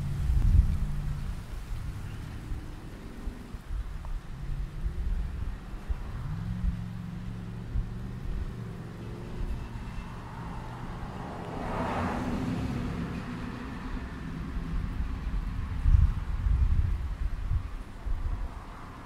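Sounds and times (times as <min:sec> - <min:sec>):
vehicle engine hum: 0:00.0 - 0:19.0
wind rumbling on microphone: 0:00.0 - 0:19.0
wind rustling palm fronds: 0:00.0 - 0:19.0.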